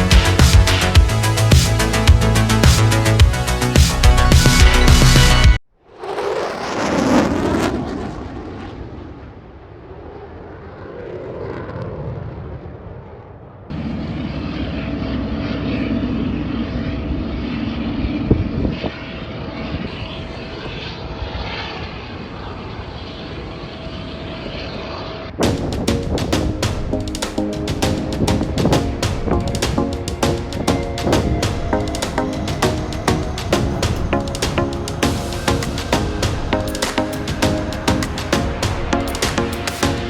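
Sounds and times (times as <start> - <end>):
jet engine drone: 5.8 - 40.0.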